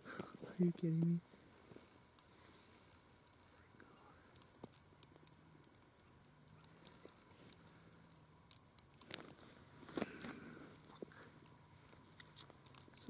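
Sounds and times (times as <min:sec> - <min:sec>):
light ticks and patter: 0:00.0 - 0:13.0.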